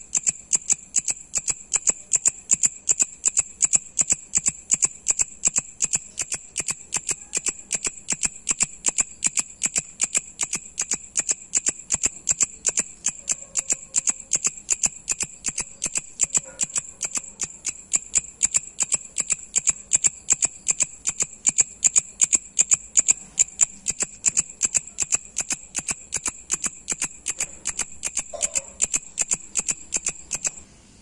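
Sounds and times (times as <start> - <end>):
katydid rasping clicks: 0.0 - 30.6.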